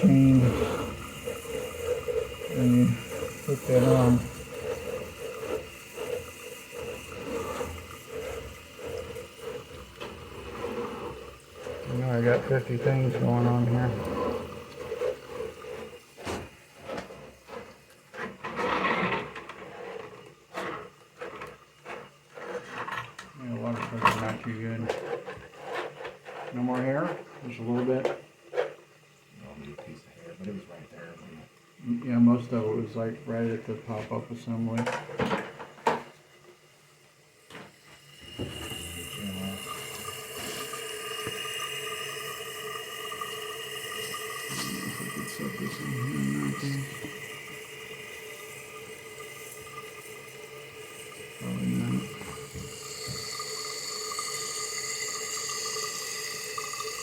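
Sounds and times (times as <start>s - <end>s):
water running through plumbing: 0.0s - 57.0s.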